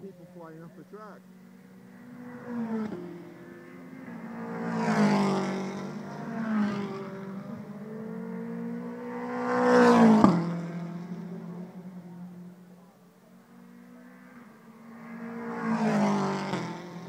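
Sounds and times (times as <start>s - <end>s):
race cars passing at high revs: 0.0s - 17.0s.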